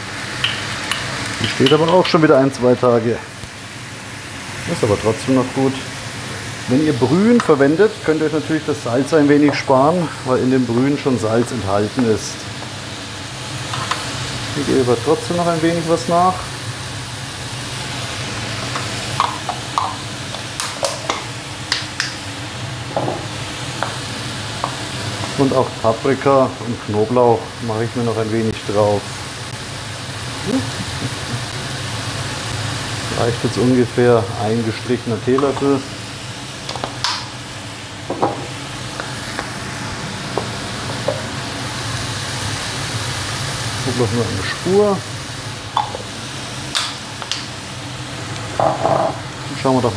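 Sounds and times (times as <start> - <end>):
cooker hood fan humming: 0.0 - 49.9
food sizzling in a pan: 0.0 - 49.9.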